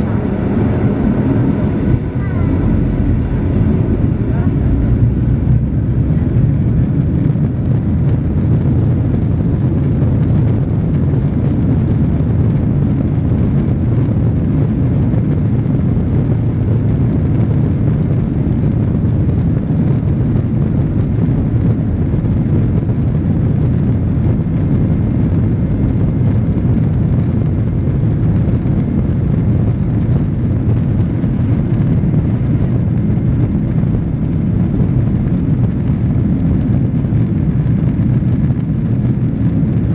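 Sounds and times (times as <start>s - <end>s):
jet engines low rumble in cabin: 0.0s - 39.9s.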